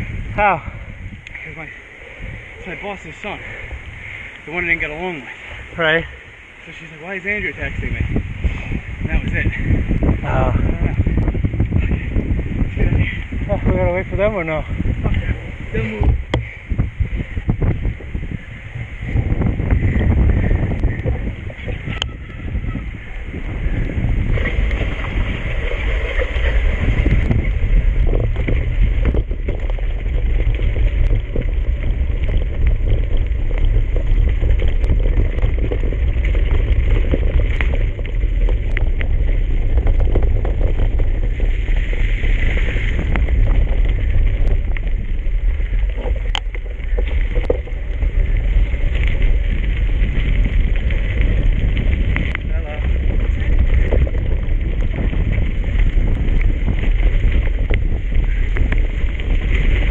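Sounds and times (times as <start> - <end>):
bicycle knocking and rattling: 0.0 - 59.9
wind rumbling on microphone: 0.0 - 59.9.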